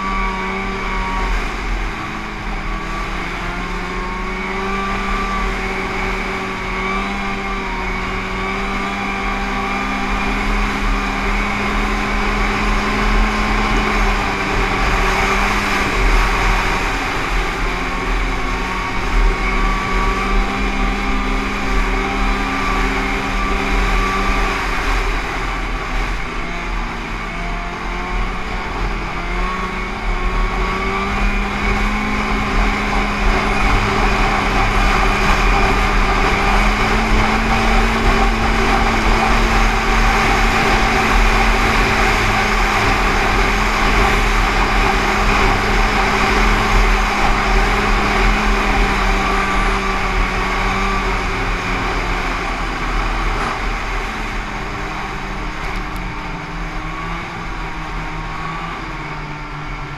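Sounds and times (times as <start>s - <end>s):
snowmobile engine cruising: 0.0s - 59.9s
wind rushing over microphone: 0.0s - 59.9s.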